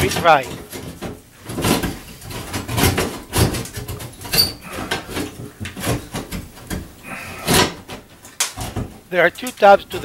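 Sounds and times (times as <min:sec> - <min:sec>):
fan motor knocks and scrapes: 0:00.0 - 0:10.0.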